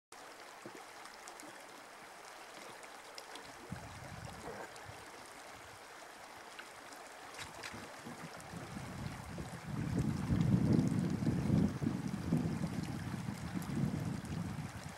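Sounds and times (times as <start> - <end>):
river water flowing: 0.2 - 14.9.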